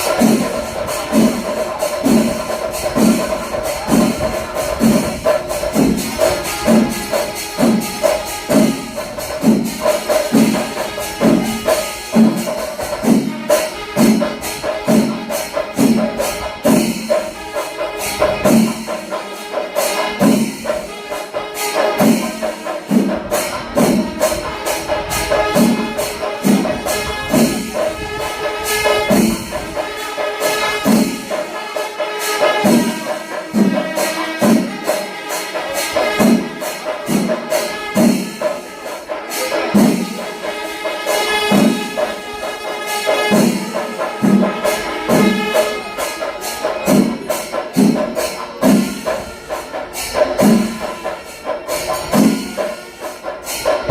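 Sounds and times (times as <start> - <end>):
drums beating a steady rhythm: 0.0 - 53.9
small hand cymbals clashing: 0.0 - 53.9.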